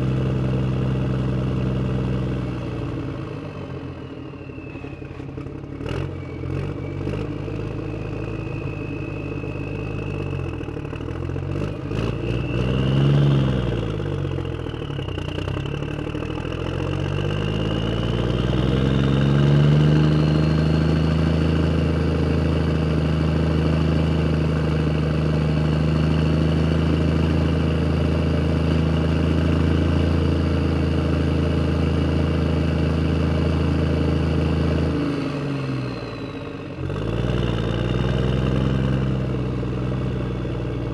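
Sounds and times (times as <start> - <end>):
engine revving and idling: 0.0 - 40.9.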